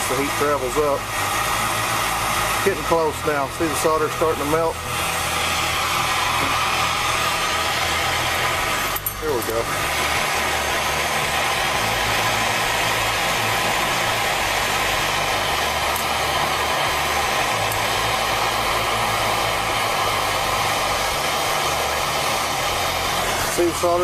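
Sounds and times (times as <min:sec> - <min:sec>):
torch flame hissing: 0:00.0 - 0:24.0.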